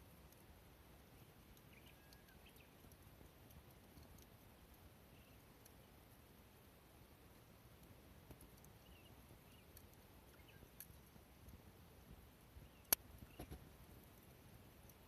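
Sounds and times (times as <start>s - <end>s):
faint clicks and ticks: 0.0s - 15.0s.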